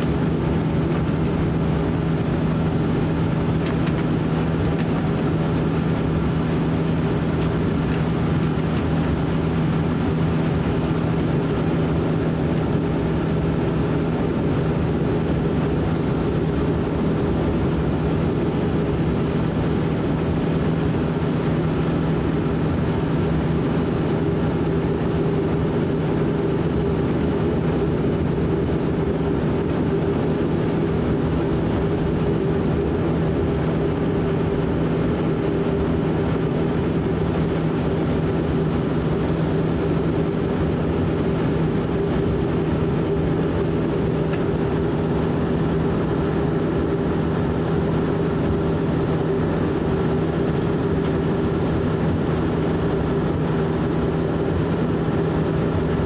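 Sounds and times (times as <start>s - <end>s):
turboprop cabin drone: 0.0s - 56.0s.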